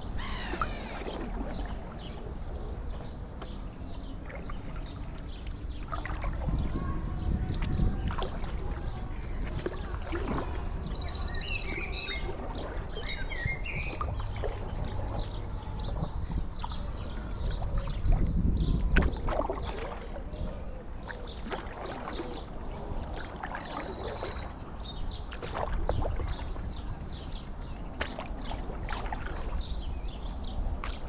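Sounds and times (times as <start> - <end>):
songbird singing trills: 0.0 - 19.2, 21.0 - 27.9.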